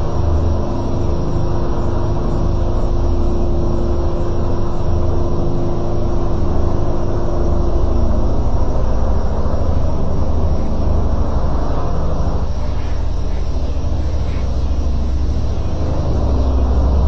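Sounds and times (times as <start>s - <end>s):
droning hum: 0.0s - 17.0s
loud low rumble: 0.0s - 17.0s.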